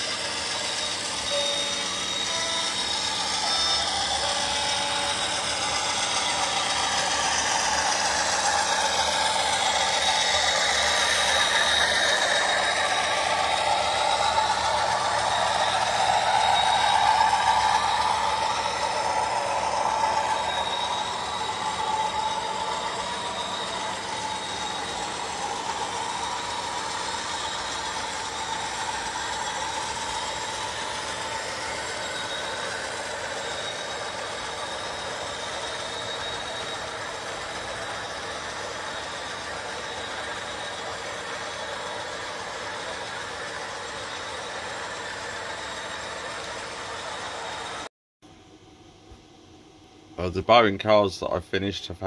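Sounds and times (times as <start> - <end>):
model train wheels rumbling on rail: 0.0 - 47.9
high whine: 0.0 - 52.0.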